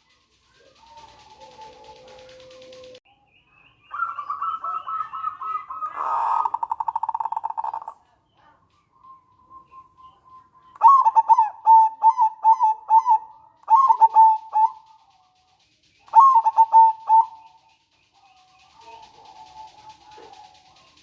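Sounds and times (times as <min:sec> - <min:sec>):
dove rattling trill: 0:00.0 - 0:03.0, 0:03.9 - 0:21.0
dove cooing: 0:00.4 - 0:03.0, 0:03.9 - 0:15.3, 0:16.1 - 0:17.6, 0:18.2 - 0:21.0.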